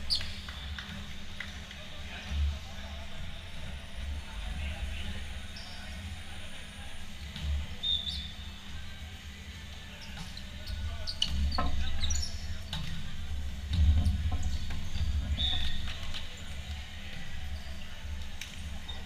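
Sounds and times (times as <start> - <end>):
low hum in a hall: 0.0 - 19.0.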